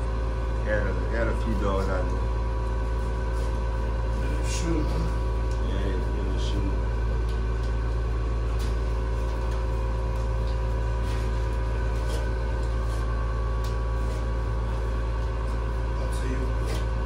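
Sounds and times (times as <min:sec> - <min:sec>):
mechanical hum with low drone: 0:00.0 - 0:17.0.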